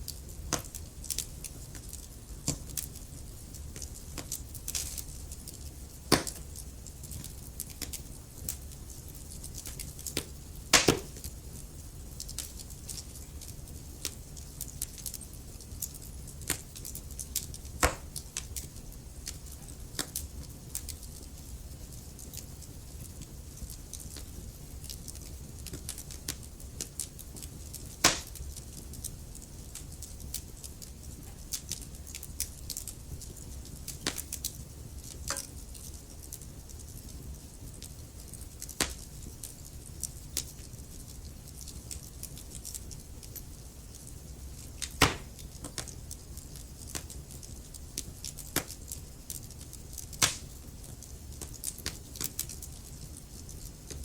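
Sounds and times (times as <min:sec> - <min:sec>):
burning logs popping: 0:00.0 - 0:54.0
wood fire crackling: 0:00.0 - 0:54.0.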